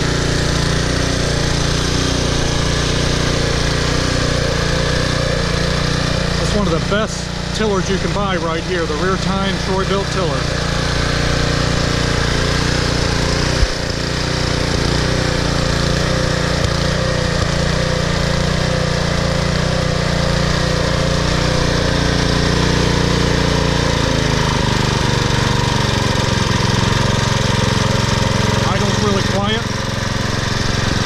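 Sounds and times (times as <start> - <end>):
tiller engine running: 0.0 - 31.0.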